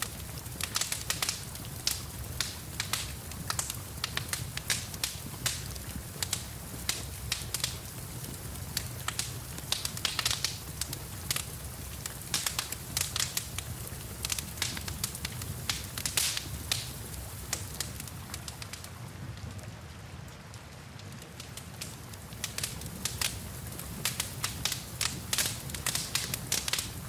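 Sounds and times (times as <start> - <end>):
sharp pops and snaps: 0.0 - 18.9, 21.0 - 27.0
wood fire crackling: 0.0 - 27.0.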